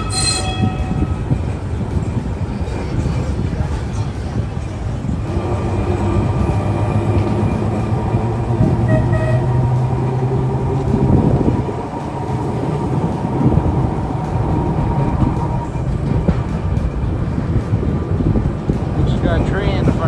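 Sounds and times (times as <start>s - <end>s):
rumble of tram wheels on rails: 0.0s - 20.0s
tram motor hum: 0.0s - 20.0s.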